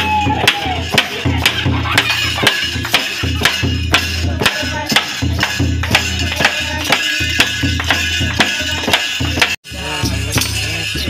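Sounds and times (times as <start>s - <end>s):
low pulsing drumbeat: 0.0s - 11.0s.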